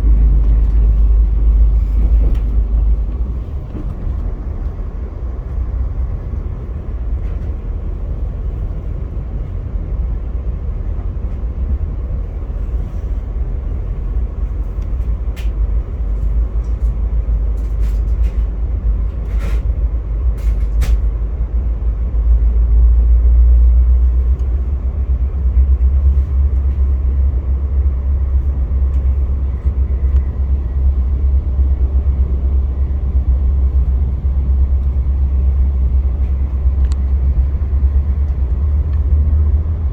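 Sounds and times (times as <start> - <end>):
train rumbling on track: 0.0 - 39.9.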